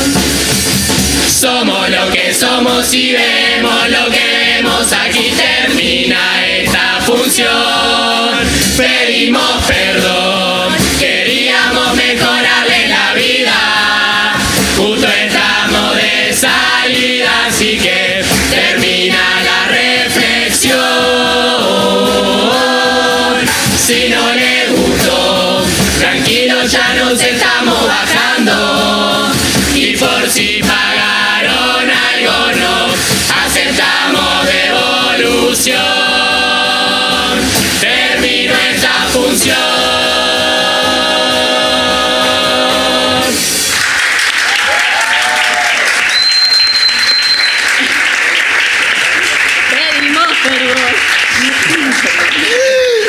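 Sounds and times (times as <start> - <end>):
chorus singing in harmony: 0.0 - 44.3
bass drum snare and cymbal: 0.0 - 48.0.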